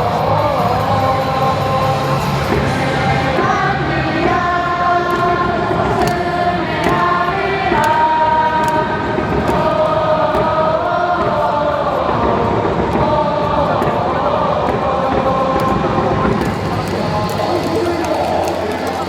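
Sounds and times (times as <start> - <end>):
crowd singing in unison: 0.0 - 19.0
loud amplified stadium music: 0.0 - 19.0.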